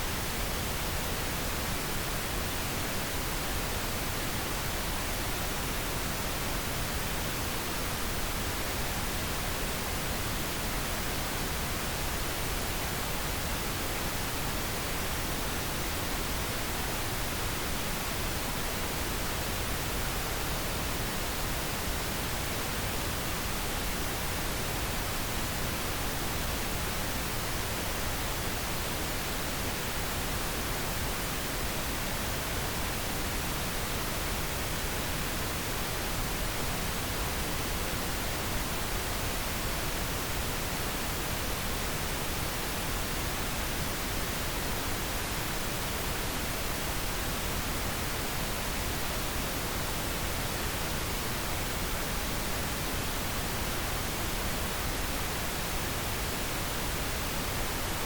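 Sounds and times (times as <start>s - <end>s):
pink noise: 0.0s - 58.0s.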